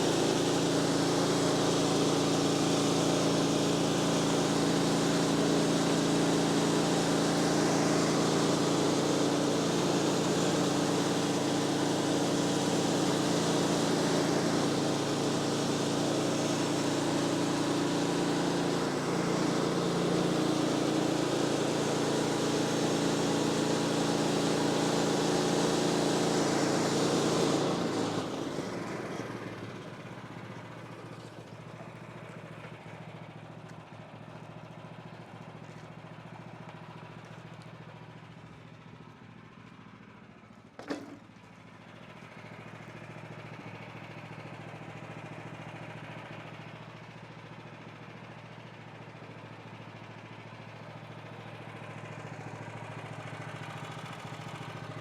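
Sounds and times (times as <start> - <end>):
gas engine running: 0.0 - 55.0.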